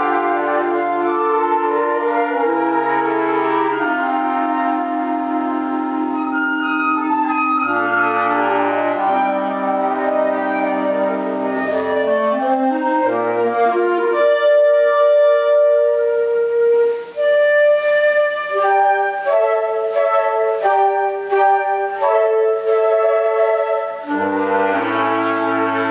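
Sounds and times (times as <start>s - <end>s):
woodwind ensemble playing: 0.0s - 25.9s.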